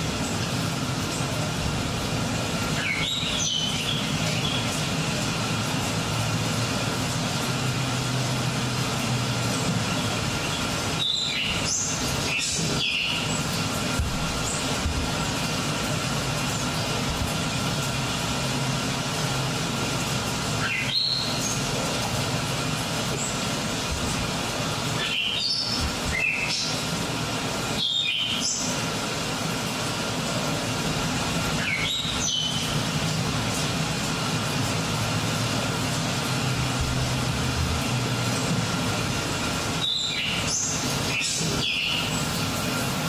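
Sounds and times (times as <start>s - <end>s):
steady rushing noise: 0.0s - 43.0s.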